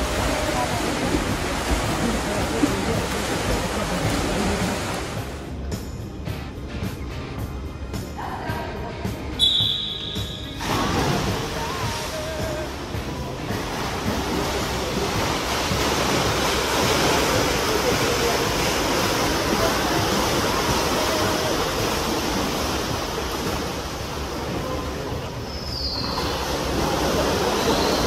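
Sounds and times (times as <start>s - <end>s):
faint distant voices: 0.0s - 5.6s, 10.1s - 28.0s
water splashing in a pool: 0.0s - 5.6s, 9.4s - 28.0s.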